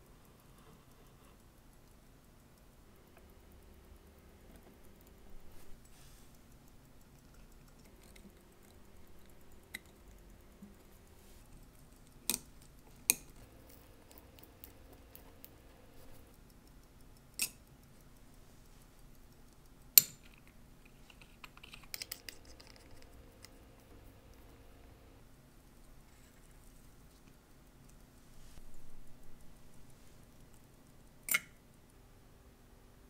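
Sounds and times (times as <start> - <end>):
metallic clicks of watch parts: 0.0 - 24.8, 29.3 - 32.0.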